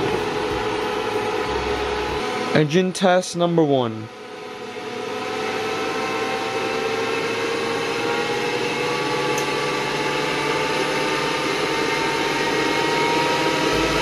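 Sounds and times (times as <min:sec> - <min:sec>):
electric motor whine: 0:00.0 - 0:02.7, 0:04.1 - 0:14.0.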